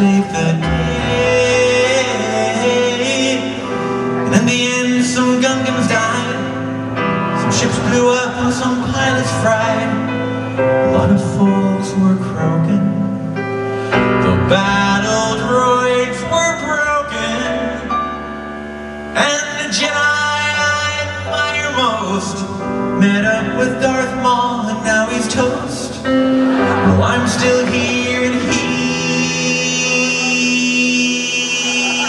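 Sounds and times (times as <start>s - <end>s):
live band music: 0.0s - 12.6s, 16.7s - 32.0s
man singing: 0.0s - 18.2s, 19.1s - 32.0s.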